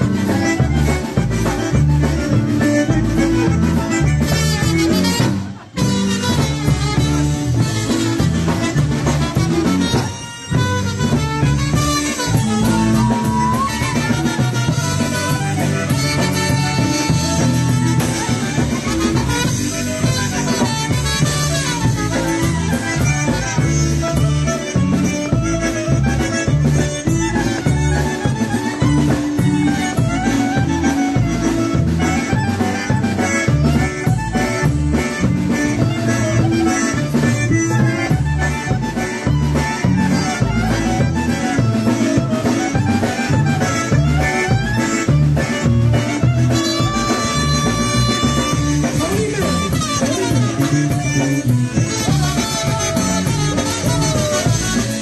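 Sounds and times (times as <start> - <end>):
bass: 0.0 - 55.0
concertina: 0.0 - 55.0
drums: 0.0 - 55.0
polka band playing: 0.0 - 55.0.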